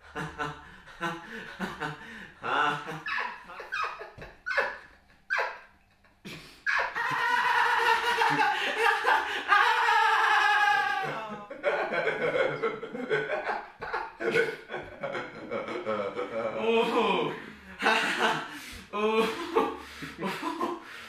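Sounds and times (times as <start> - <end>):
young men laughing: 0.0 - 20.8.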